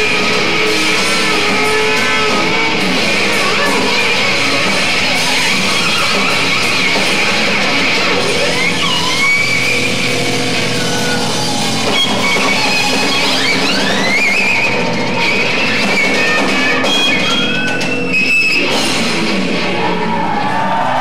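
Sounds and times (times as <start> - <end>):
slide lap steel guitar: 0.0 - 19.8.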